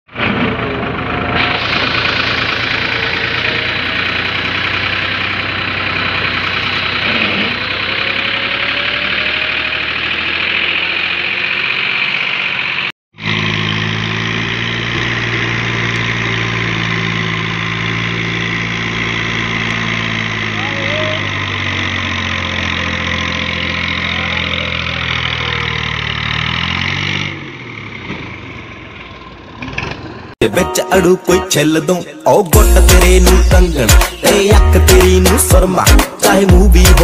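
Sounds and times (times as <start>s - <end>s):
tractor diesel engine running hard: 0.1s - 30.4s, 32.6s - 37.0s
tractor engine droning: 0.1s - 37.0s.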